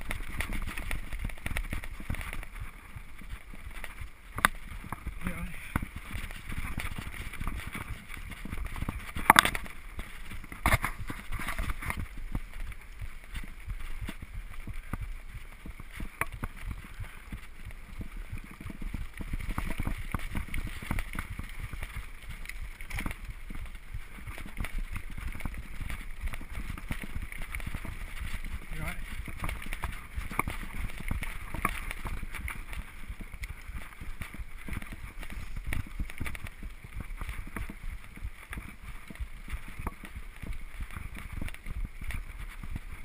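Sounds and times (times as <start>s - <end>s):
bike rattling over rough ground: 0.0s - 43.0s
bike tyres on dirt: 0.0s - 43.0s
wind rumbling on microphone: 0.0s - 43.0s.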